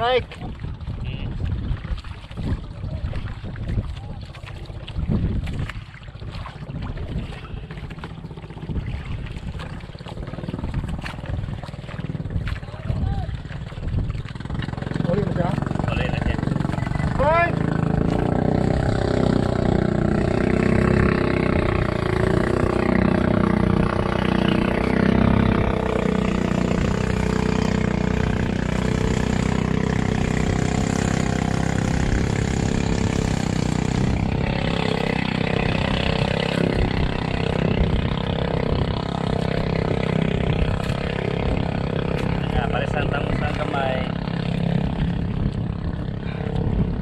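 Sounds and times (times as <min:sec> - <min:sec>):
boat engine running: 0:00.0 - 0:47.0
water noise: 0:00.0 - 0:47.0
wind: 0:00.0 - 0:47.0.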